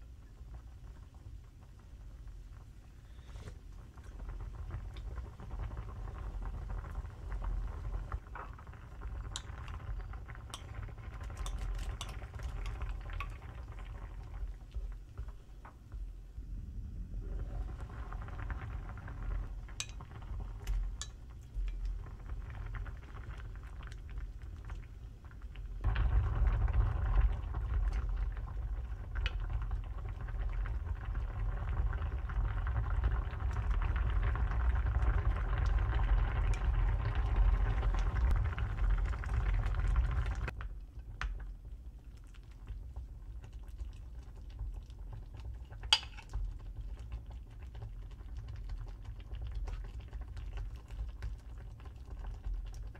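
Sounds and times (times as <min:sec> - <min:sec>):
stew bubbling in a pot: 0:00.0 - 0:52.9.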